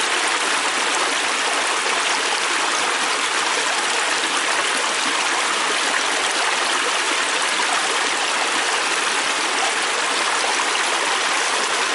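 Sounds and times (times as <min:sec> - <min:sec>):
stream rushing over rocks: 0:00.0 - 0:11.9.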